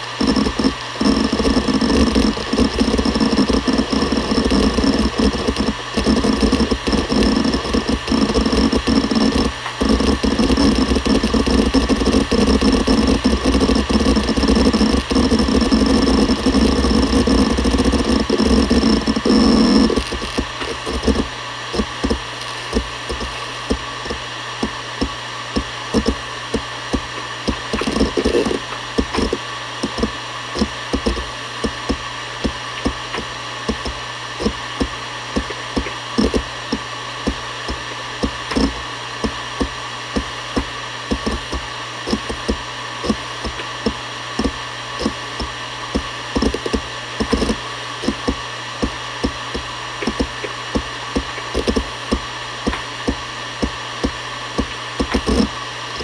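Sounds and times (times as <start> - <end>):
hard drive heads ticking: 0.0 - 56.0
hard drive spindle hum and whine: 0.0 - 56.0.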